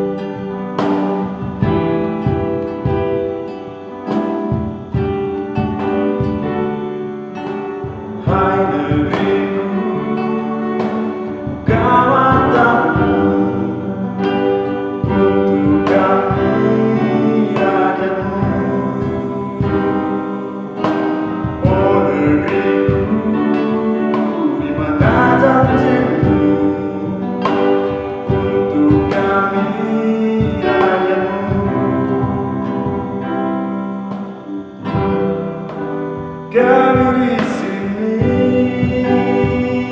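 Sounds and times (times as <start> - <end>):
man singing a slow song: 0.0 - 39.9
strummed acoustic guitar: 0.0 - 39.9.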